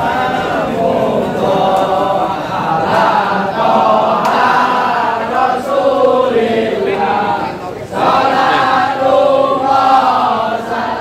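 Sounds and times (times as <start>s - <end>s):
male voices chanting in unison: 0.0s - 11.0s.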